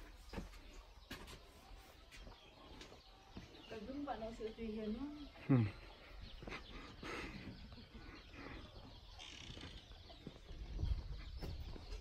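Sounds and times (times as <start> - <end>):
birds calling: 2.1 - 12.0.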